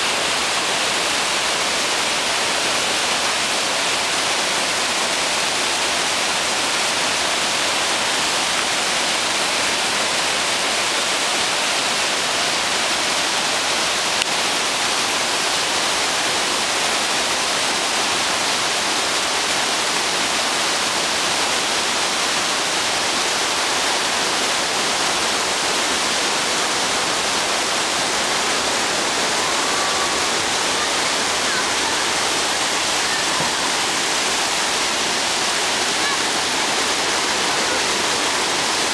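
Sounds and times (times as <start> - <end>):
waterfall rushing over rocks: 0.0 - 38.9.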